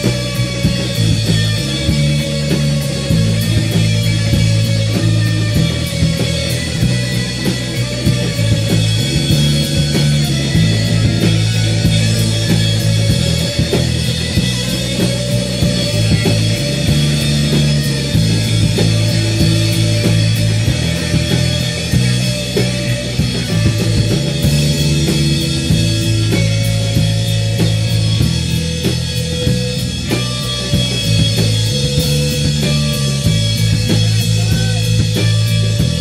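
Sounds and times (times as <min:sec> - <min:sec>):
bass line: 0:00.0 - 0:36.0
rock band playing: 0:00.0 - 0:36.0.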